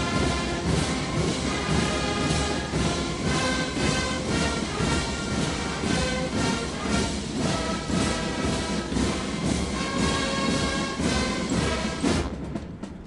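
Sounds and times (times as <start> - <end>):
military band playing a march: 0.0 - 13.0.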